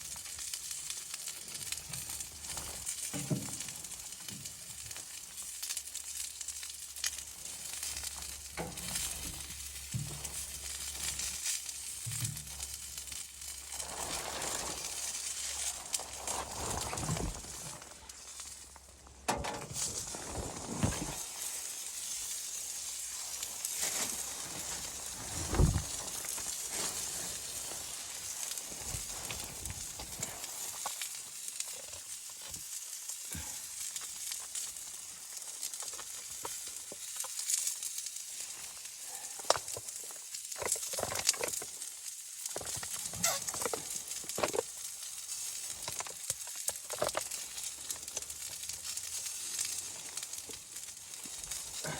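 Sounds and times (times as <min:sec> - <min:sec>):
food sizzling in a pan: 0:00.0 - 0:16.3, 0:21.2 - 0:51.9.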